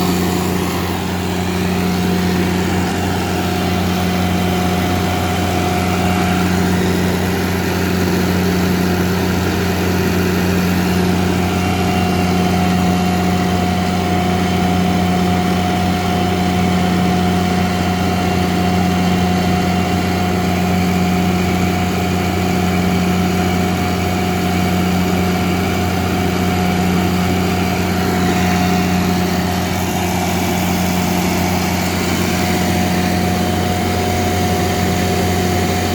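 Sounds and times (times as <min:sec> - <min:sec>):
diesel generator humming: 0:00.0 - 0:35.9.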